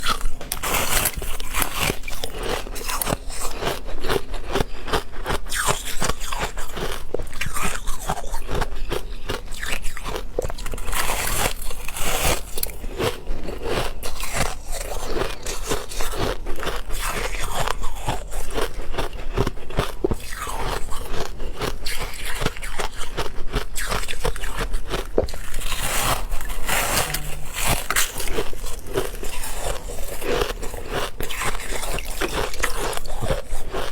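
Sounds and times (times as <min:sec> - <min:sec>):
person crunching ice: 0:00.0 - 0:33.9.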